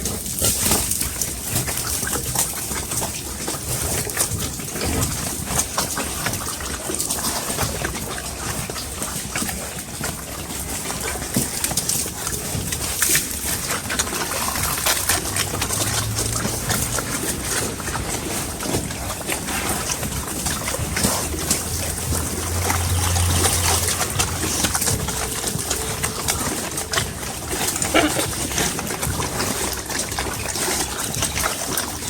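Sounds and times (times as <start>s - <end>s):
pigs eating noisily: 0.0s - 32.0s.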